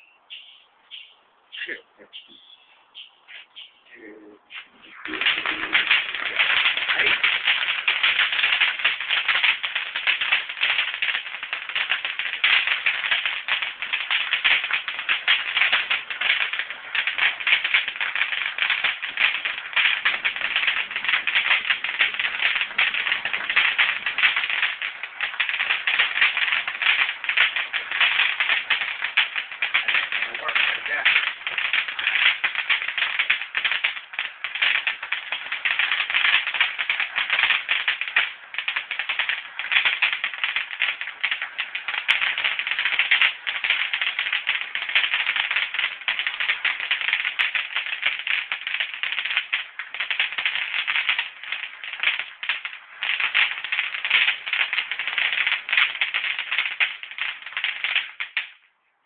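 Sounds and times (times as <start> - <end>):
firework fizzing and crackling: 0.0 - 58.7.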